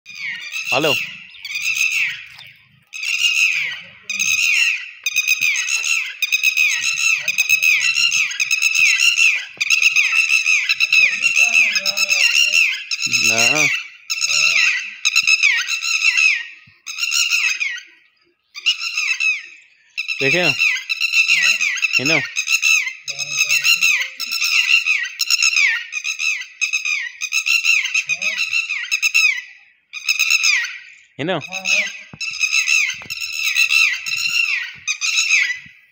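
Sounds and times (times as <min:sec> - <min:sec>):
bird squawking: 0:00.1 - 0:35.9.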